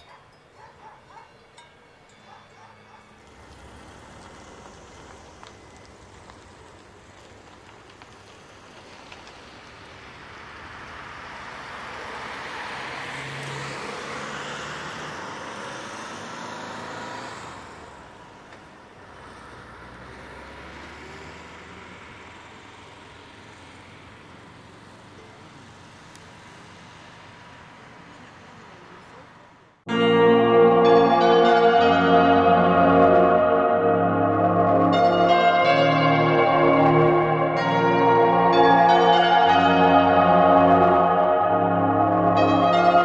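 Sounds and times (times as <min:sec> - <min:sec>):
faint low vehicle sound: 0:00.0 - 0:43.0
road vehicle passing: 0:00.0 - 0:43.0.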